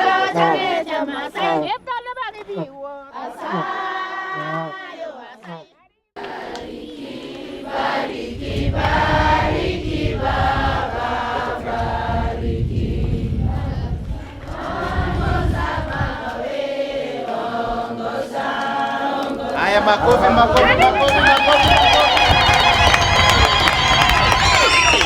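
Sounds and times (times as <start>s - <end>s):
group of voices singing: 0.0s - 1.7s, 2.5s - 5.6s, 6.2s - 23.2s.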